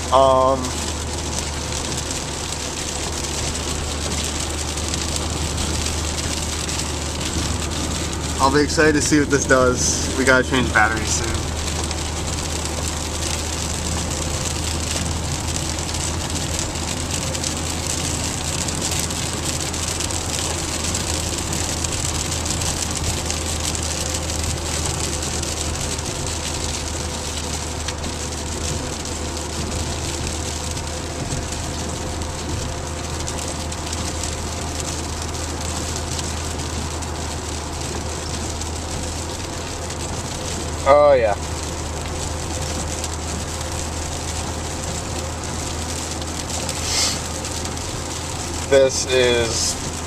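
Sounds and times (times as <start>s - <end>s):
car hum on the road: 0.0s - 50.0s
rain beating on car roof: 0.0s - 50.0s.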